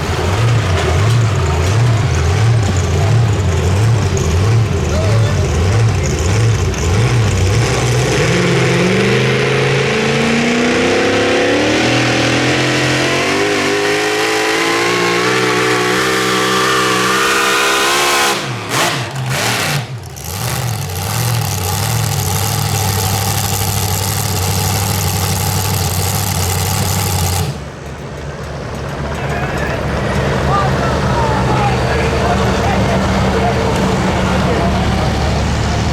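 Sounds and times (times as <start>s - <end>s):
pulling truck engine under load: 0.0s - 35.9s.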